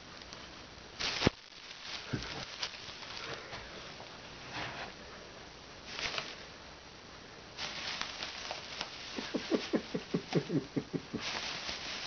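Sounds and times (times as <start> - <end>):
plastic bag rustling: 0.4 - 5.0, 5.8 - 6.5, 7.6 - 12.0.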